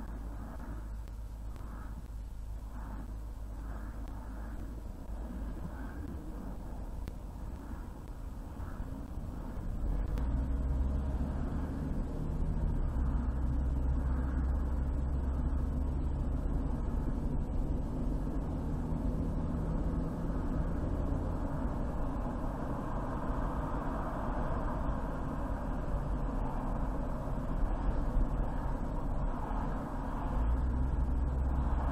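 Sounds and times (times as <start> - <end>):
car road and engine noise: 0.0 - 31.9.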